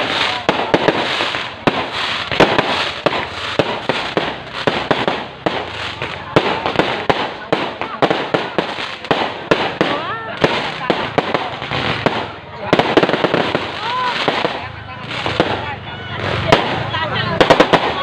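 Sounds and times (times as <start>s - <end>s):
fireworks bangs and pops: 0.0s - 18.0s
fireworks crackle: 0.0s - 18.0s.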